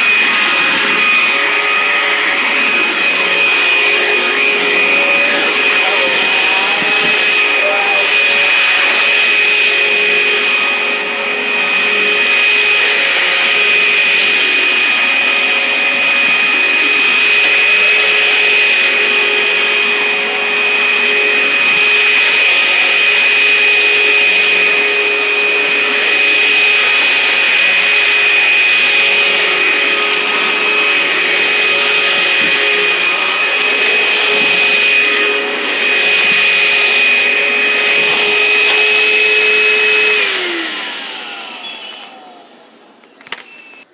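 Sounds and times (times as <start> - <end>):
upright vacuum with high whine: 0.0 - 43.9.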